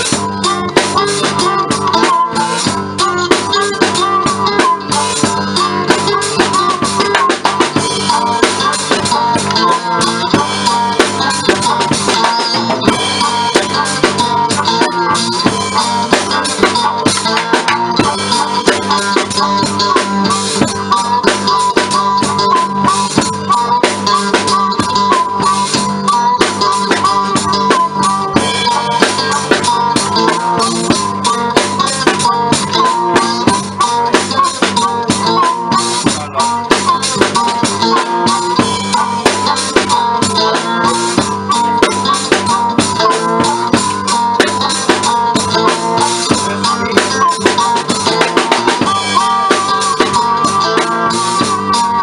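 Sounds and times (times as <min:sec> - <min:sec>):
drum kit steady beat: 0:00.0 - 0:52.0
live blues band playing: 0:00.0 - 0:52.0.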